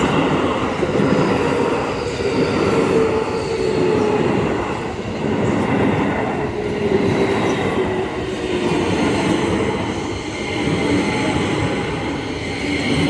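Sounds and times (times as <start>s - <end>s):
train wheels rushing on rail: 0.0s - 13.0s.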